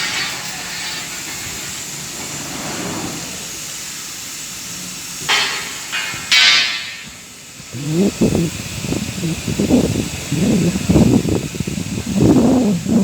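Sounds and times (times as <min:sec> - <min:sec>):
gas burner hissing: 0:00.0 - 0:13.0
gas burner rushing bursts: 0:00.0 - 0:13.0.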